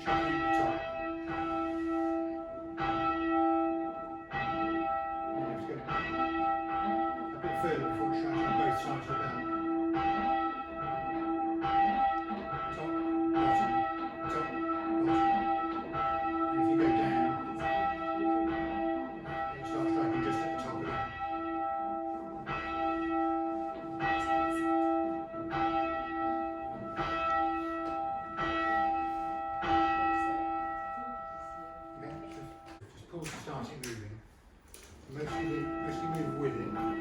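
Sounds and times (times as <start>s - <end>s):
church tower bell ringing: 0.0s - 32.8s, 35.1s - 37.0s.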